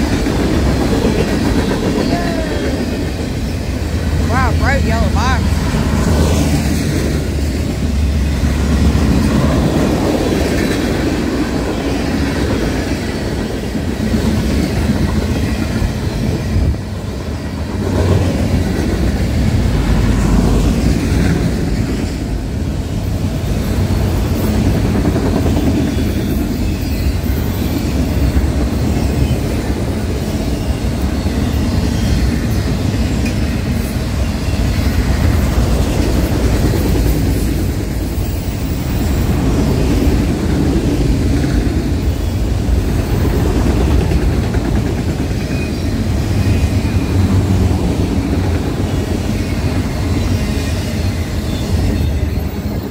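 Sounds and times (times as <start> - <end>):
freight train wheels on rails: 0.0 - 52.9.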